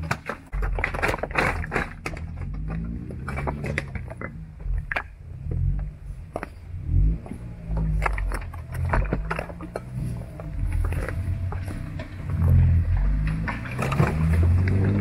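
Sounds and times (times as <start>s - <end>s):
stones cracking under tyres: 0.0s - 15.0s
engine revving: 1.8s - 15.0s.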